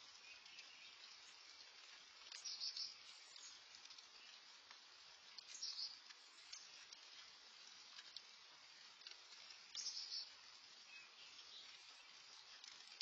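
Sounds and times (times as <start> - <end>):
light rain hiss: 0.0 - 13.0.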